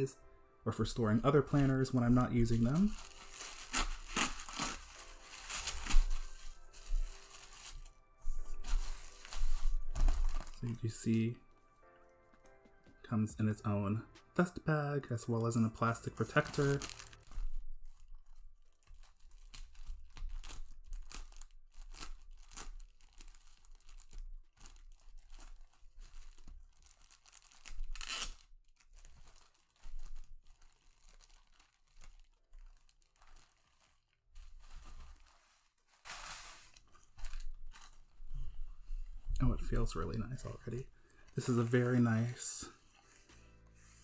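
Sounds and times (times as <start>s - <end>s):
plastic bag crinkling and rustling: 0.8s - 11.4s, 15.2s - 43.4s.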